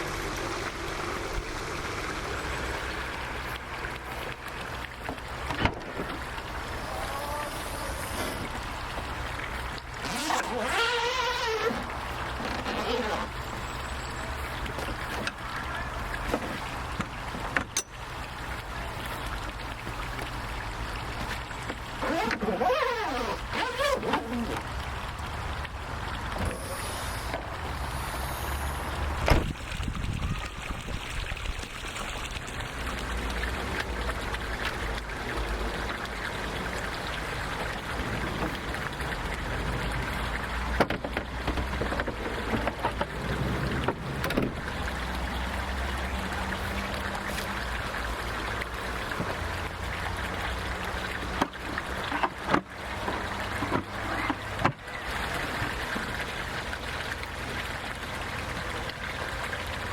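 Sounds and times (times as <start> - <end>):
water trickling: 0.0 - 59.9.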